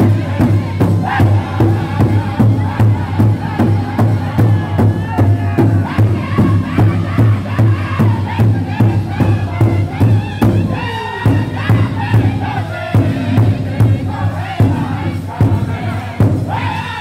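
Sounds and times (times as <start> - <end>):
large drum steady beat: 0.0 - 17.0
men singing in unison: 0.0 - 17.0.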